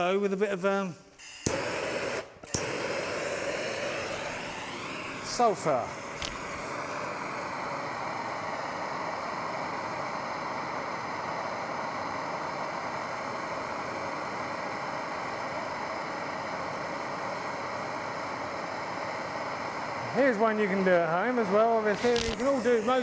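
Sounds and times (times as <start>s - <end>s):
blowtorch flame hissing: 1.2s - 23.0s.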